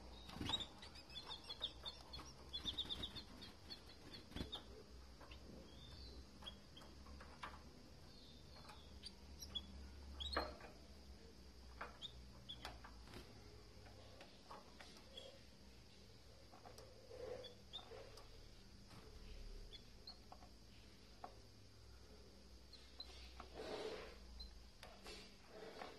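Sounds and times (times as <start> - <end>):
canaries chirping: 0.0 - 21.5, 22.6 - 24.8.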